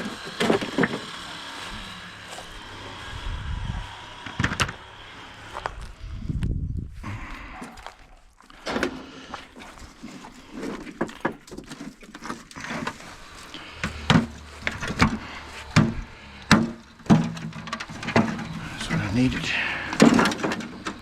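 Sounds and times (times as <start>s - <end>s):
hand tools and metal parts clattering: 0.0s - 5.9s, 7.5s - 21.0s.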